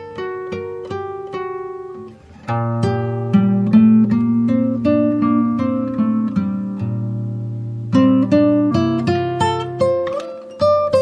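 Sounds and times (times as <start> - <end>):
acoustic guitar melody: 0.0 - 11.0.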